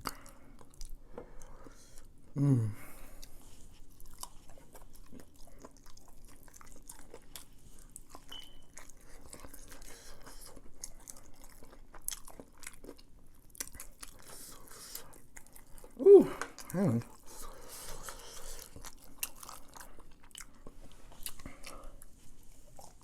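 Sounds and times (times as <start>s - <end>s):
chewing crispy chicken: 0.0s - 23.0s.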